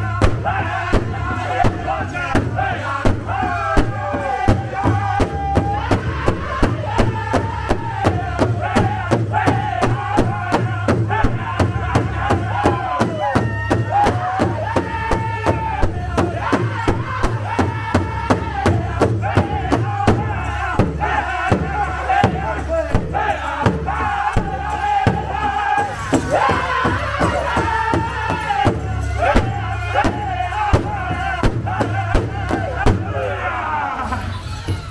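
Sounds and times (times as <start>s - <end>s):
bass drum beating: 0.0s - 33.3s
group singing in high voices: 0.0s - 34.9s.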